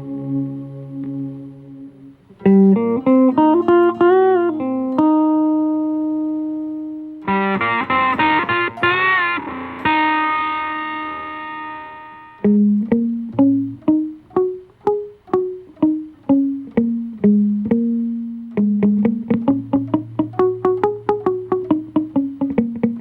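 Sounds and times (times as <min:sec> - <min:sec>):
distorted guitar note: 0:00.0 - 0:04.4, 0:07.2 - 0:23.0
clean picked guitar line: 0:00.0 - 0:23.0.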